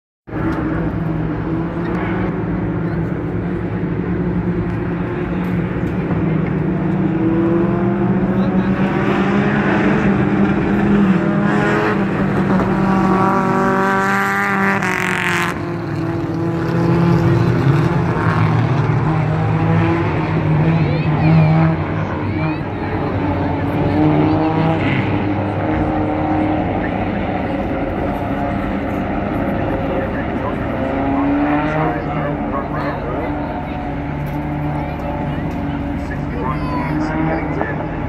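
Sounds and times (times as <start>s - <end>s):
race car engines droning: 0.3s - 38.0s.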